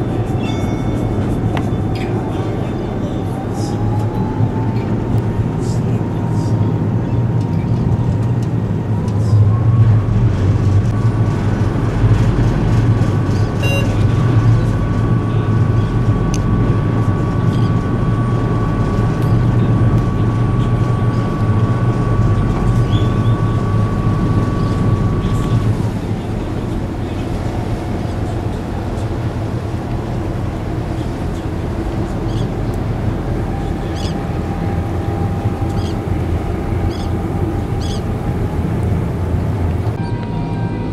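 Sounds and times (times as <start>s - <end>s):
diesel engines droning: 0.0s - 40.9s
thin steady whine: 0.0s - 40.9s
water noise: 0.0s - 40.9s
wind: 0.0s - 40.9s.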